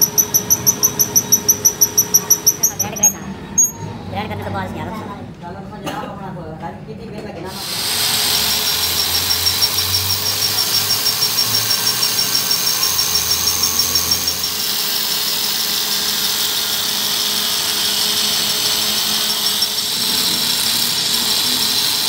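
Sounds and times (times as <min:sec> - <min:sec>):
angle grinder grinding steel: 0:00.0 - 0:03.9, 0:07.6 - 0:22.0.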